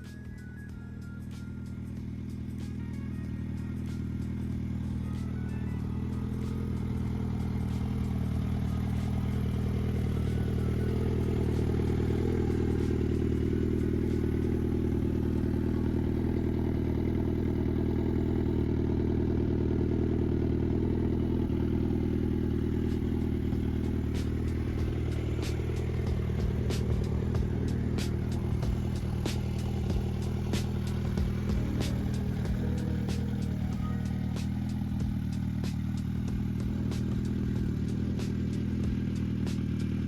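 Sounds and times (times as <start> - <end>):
motorcycle engine running steadily: 0.0 - 40.0.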